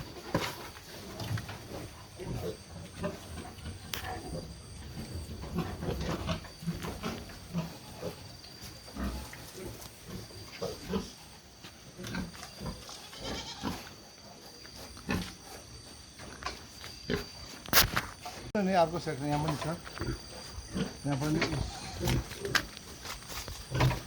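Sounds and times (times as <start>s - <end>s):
pigs grunting and snuffling: 0.0s - 24.0s.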